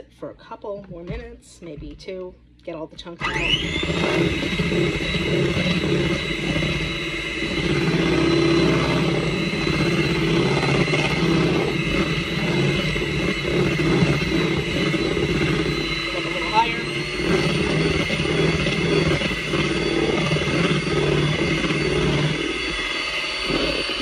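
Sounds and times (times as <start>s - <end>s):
beaters churning batter: 3.2s - 24.0s
electric hand mixer whine: 3.2s - 24.0s.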